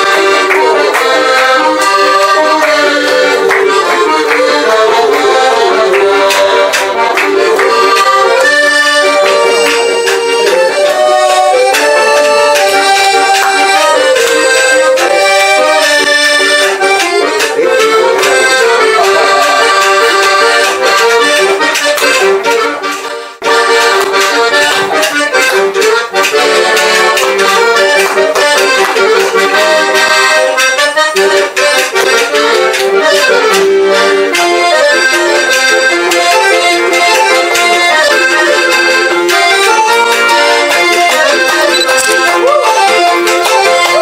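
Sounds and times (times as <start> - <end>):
accordion playing a tune: 0.0 - 44.0.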